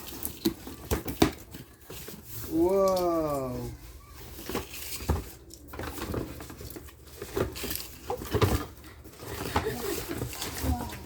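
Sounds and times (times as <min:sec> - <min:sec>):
gift package rustling: 0:00.0 - 0:11.0.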